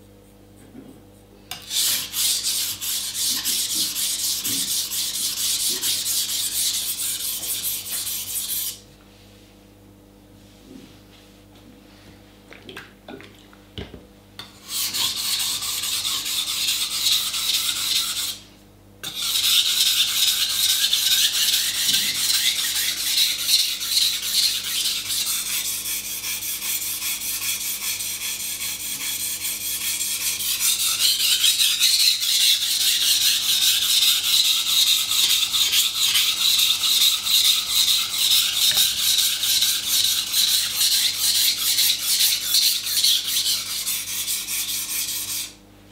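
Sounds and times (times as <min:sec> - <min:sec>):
knife scraping on whetstone: 0:01.5 - 0:08.8, 0:14.4 - 0:18.4, 0:19.0 - 0:45.6.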